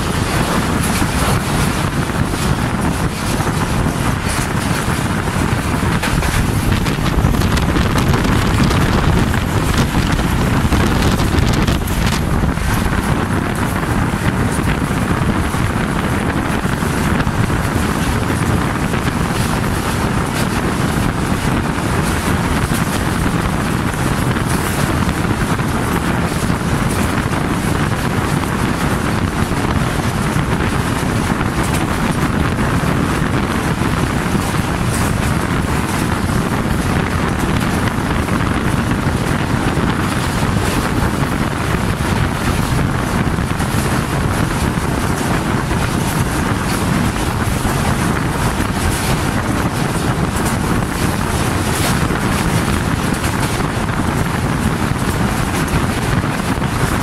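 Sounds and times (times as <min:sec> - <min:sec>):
train running noise: 0:00.0 - 0:57.0
wind rushing on the microphone: 0:00.0 - 0:57.0.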